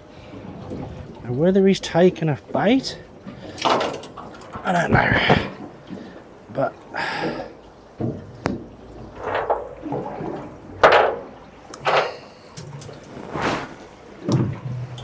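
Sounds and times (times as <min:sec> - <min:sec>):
water splashing and slopping: 0:00.0 - 0:15.0.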